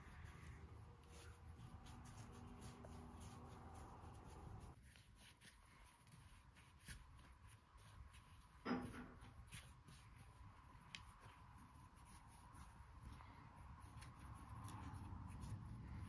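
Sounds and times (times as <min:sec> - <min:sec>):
faint scraping and handling: 0:00.0 - 0:16.0.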